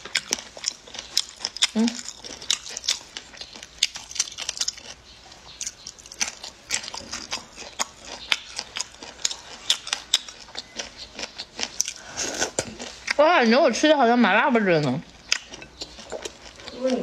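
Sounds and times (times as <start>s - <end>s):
person chewing crunchy food: 0.0s - 13.2s, 14.8s - 17.0s.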